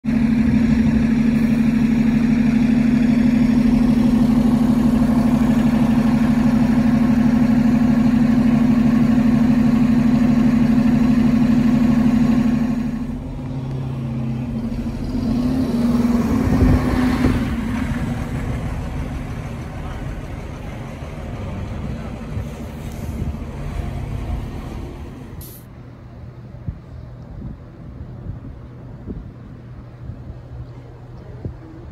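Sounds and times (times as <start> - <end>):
bus engine droning and revving: 0.0 - 31.9.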